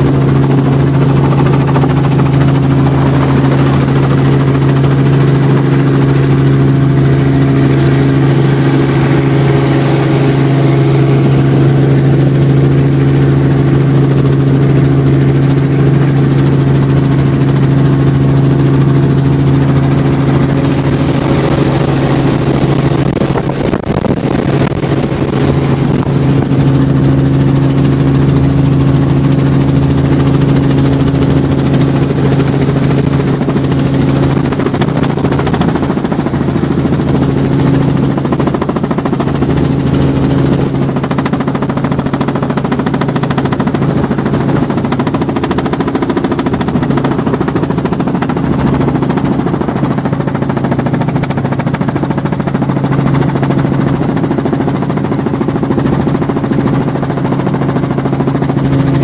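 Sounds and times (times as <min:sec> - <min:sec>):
helicopter piston engine drone: 0:00.0 - 0:59.0
rotor blades beating: 0:00.0 - 0:59.0.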